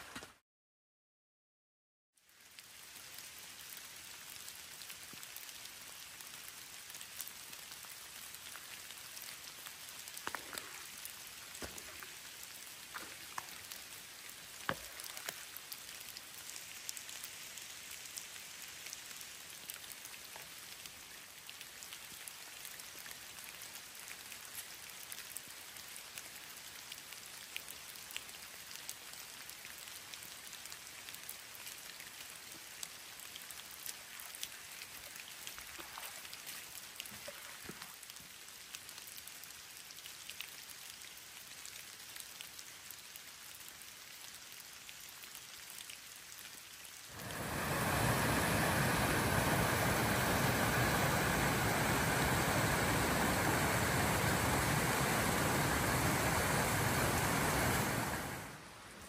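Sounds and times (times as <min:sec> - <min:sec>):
steady rain pattering: 0:02.1 - 0:59.0
louder individual raindrops: 0:02.2 - 0:59.0.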